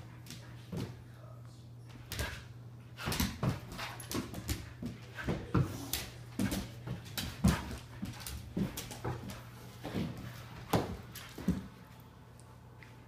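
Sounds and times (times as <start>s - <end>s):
paws scrabbling on wooden floor: 2.0s - 13.0s.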